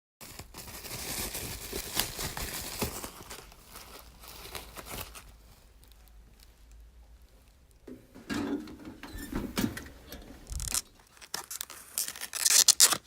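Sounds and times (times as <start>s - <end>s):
crinkling and rustling: 0.2s - 13.0s.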